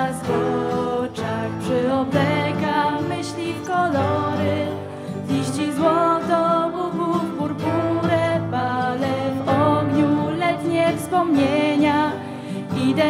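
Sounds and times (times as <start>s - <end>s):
ukulele: 0.0s - 13.0s
women singing: 0.0s - 13.0s.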